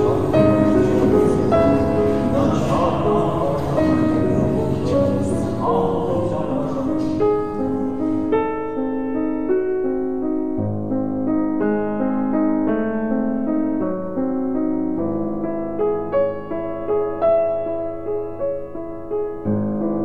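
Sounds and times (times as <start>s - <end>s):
slow piano piece: 0.0s - 20.0s.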